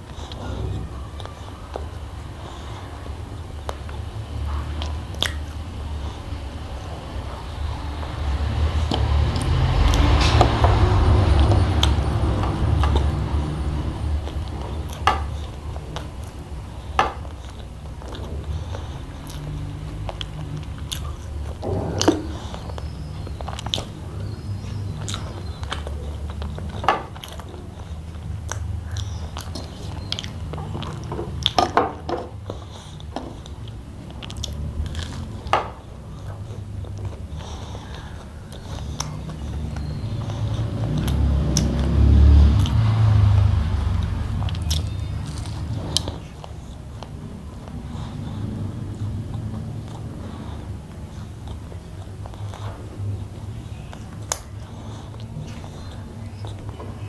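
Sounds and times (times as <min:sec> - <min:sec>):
chewing with mouth smacks: 0:00.0 - 0:57.0
steady low hum: 0:00.0 - 0:57.0.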